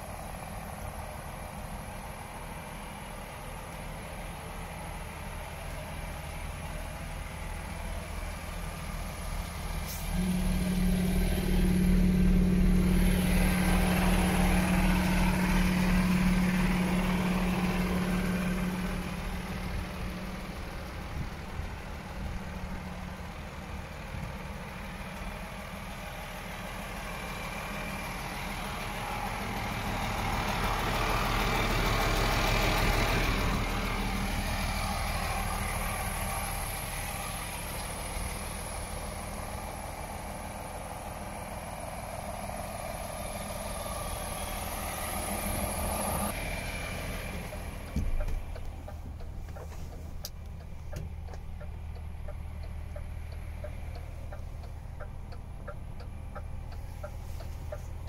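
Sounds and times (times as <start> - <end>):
truck diesel engine idling: 0.0 - 58.0.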